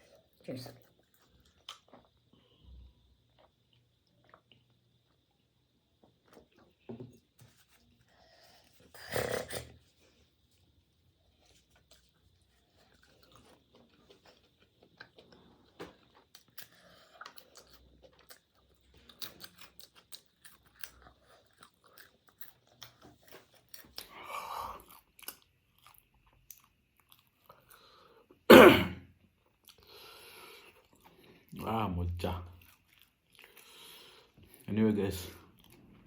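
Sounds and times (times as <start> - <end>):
chewing and crunching food: 0.0 - 28.5, 29.2 - 36.0.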